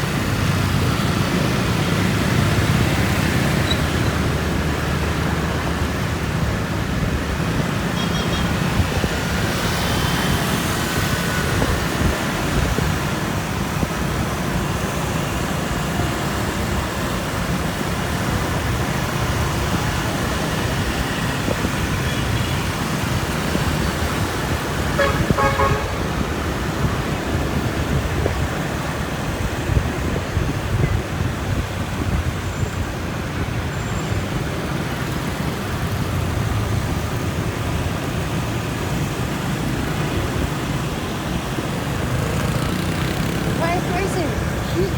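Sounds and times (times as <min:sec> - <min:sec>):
motorbike engine and road noise: 0:00.0 - 0:44.9
street traffic: 0:00.0 - 0:44.9.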